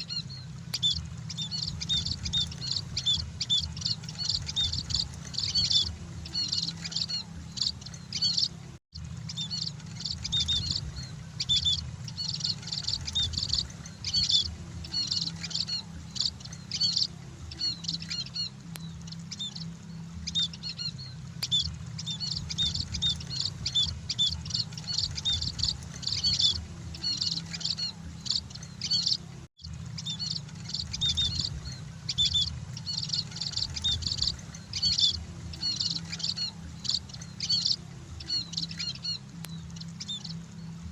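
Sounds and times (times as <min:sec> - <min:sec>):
munias chirping rapidly: 0:00.0 - 0:40.9
steady low hum: 0:00.0 - 0:40.9.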